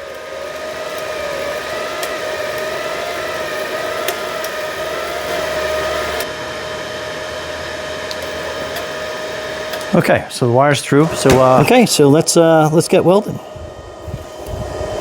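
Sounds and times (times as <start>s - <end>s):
welder wire-feed motor whirring: 0.0s - 15.0s.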